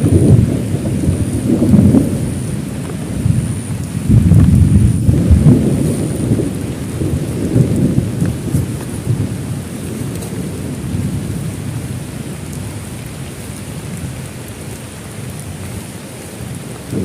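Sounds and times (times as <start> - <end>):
heavy rain: 0.0 - 17.0
raindrops ticking: 0.0 - 17.0
thunder rumbling: 0.0 - 17.0.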